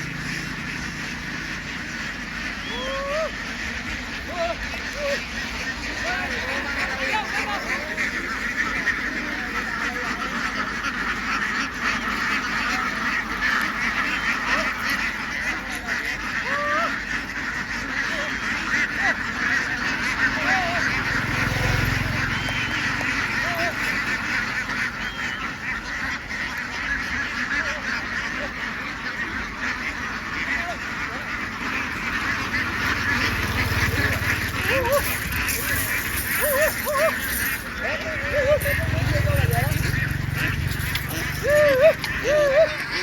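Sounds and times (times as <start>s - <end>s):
flock of ducks quacking: 0.0s - 43.0s.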